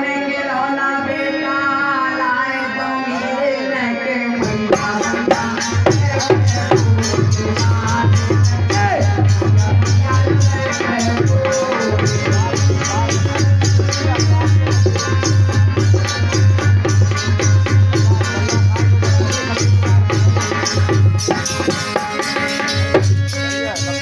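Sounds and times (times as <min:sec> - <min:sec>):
hand drum beat: 0:04.4 - 0:24.0.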